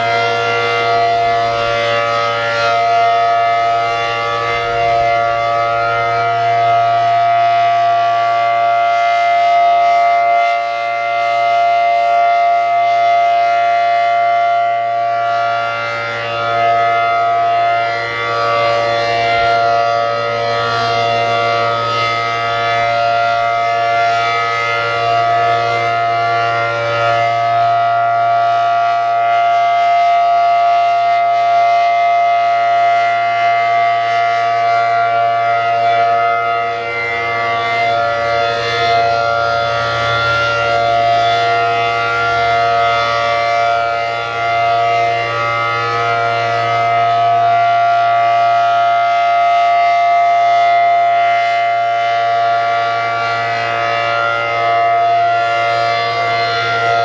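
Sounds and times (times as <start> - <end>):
warning siren two-pitch chord: 0.0 - 57.0.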